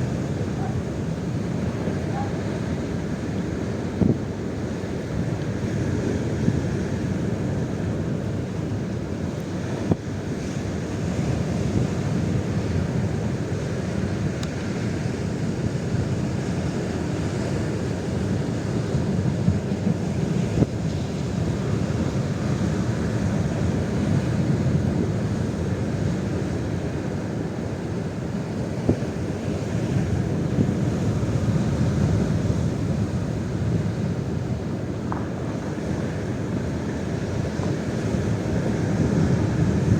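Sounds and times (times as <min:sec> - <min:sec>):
gusty wind buffeting microphone: 0:00.0 - 0:39.9.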